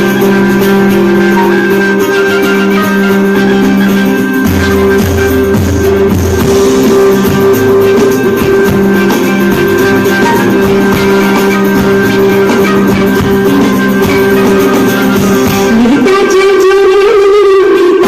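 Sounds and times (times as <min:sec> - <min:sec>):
held drone notes: 0:00.0 - 0:16.5
plucked string instruments: 0:00.0 - 0:17.2
percussion: 0:00.0 - 0:18.0.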